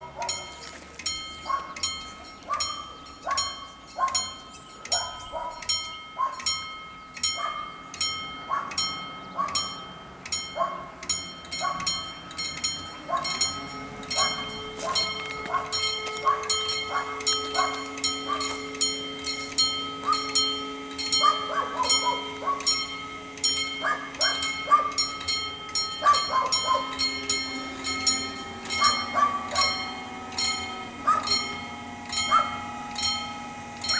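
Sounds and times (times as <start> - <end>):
level crossing bells dinging: 0.0 - 33.9.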